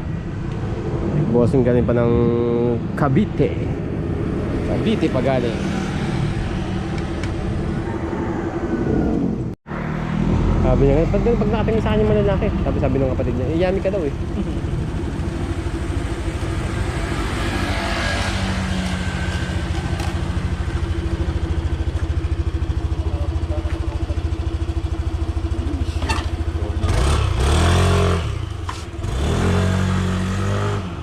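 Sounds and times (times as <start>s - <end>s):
scooter engine idling and revving: 3.4s - 31.0s.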